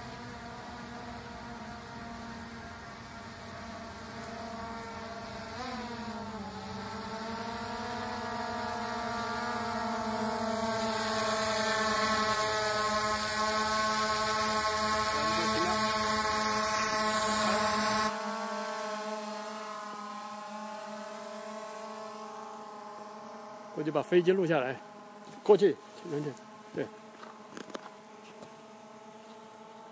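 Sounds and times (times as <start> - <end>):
drone propellers buzzing: 0.0 - 25.4.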